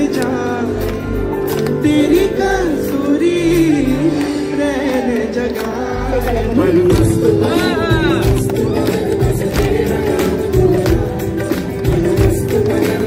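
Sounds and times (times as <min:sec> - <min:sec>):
person singing slow melody: 0:00.0 - 0:13.0.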